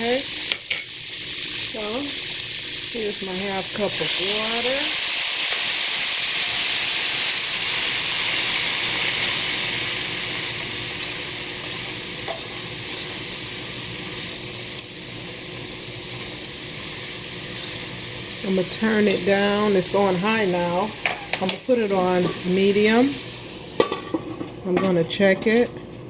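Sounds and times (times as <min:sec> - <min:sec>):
water sizzling in a hot skillet: 0:00.0 - 0:24.7.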